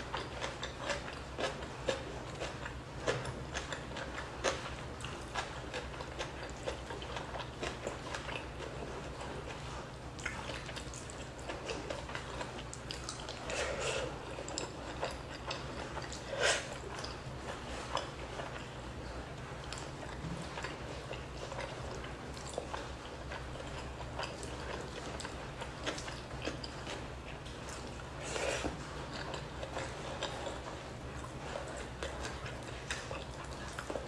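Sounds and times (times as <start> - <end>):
chewing crispy fish skin: 0.0 - 34.0.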